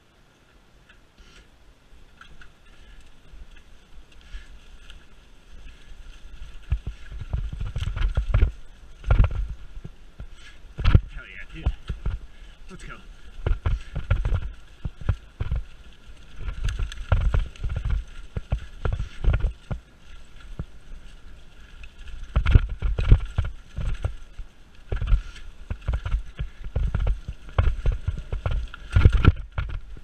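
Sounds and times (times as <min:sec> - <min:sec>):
bike tyres rolling over dry leaves: 0:00.0 - 0:30.0
bike knocking and rattling: 0:00.8 - 0:30.0.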